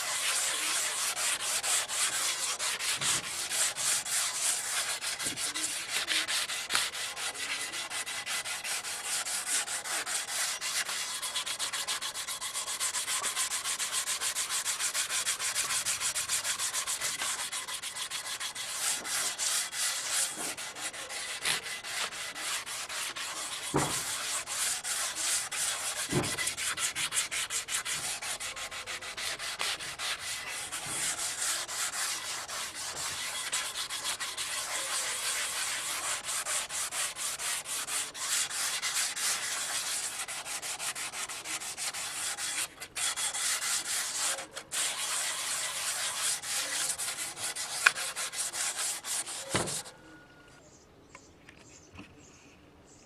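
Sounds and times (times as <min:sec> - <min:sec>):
sandpaper rubbing on metal: 0:00.0 - 0:50.0.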